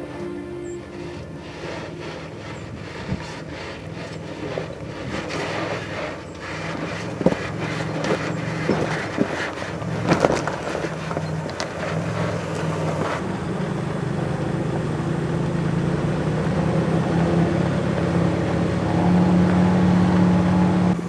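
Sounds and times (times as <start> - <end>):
off-road vehicle engine: 0.0 - 21.0.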